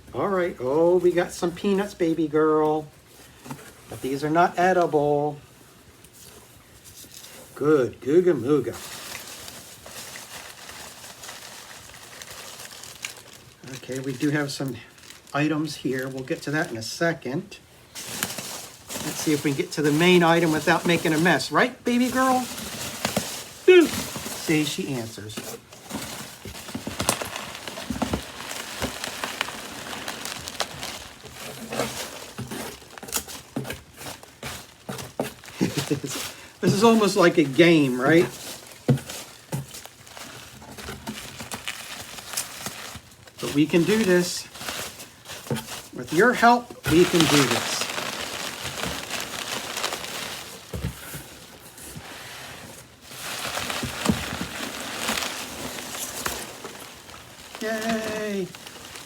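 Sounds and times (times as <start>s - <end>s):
packing peanuts rustling and squeaking: 0.0s - 59.0s.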